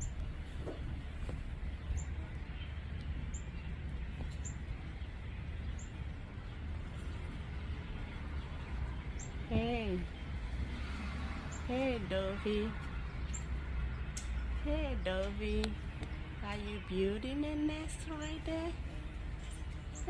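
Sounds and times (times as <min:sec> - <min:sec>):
small bird chirping: 0:00.0 - 0:10.5, 0:13.0 - 0:20.0
steady low rumble: 0:00.0 - 0:20.0.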